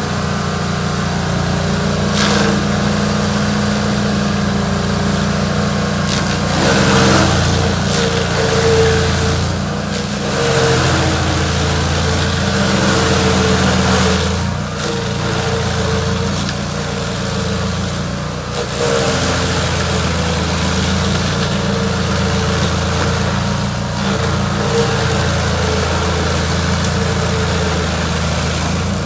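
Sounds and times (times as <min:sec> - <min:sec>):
chainsaw engine running: 0:00.0 - 0:29.0.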